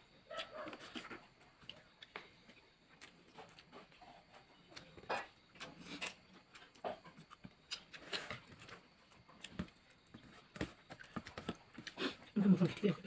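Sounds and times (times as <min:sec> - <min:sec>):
eating rice by hand: 0:00.0 - 0:13.0.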